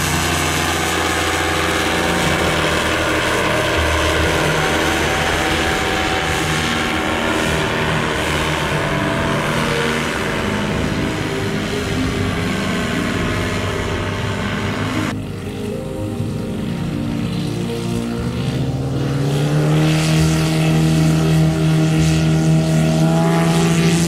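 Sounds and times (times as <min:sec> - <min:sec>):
paramotor engine droning: 0:00.0 - 0:24.0.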